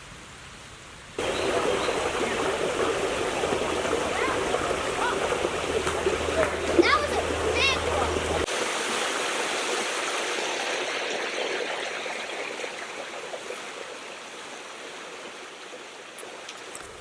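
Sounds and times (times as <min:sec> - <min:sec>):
creek water rushing: 0:01.2 - 0:17.0.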